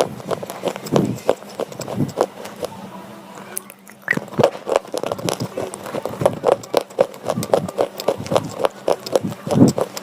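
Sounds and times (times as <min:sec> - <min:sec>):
pencil being chewed crunching: 0:00.0 - 0:02.7, 0:03.6 - 0:10.0.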